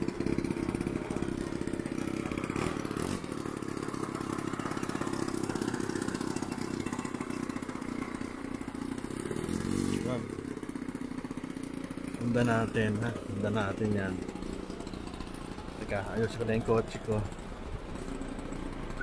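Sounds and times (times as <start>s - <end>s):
model airplane engine idling: 0.0s - 19.0s.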